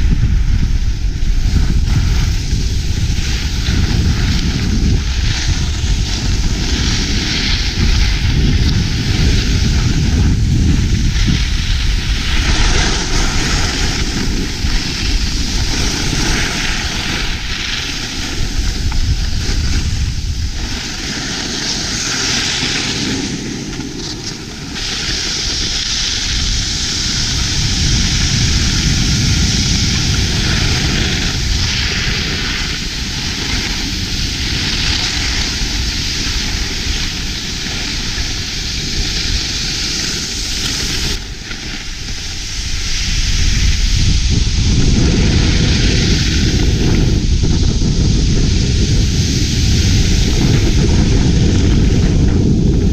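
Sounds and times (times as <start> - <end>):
skis sliding on snow: 0.0 - 52.9
wind buffeting microphone: 0.0 - 52.9.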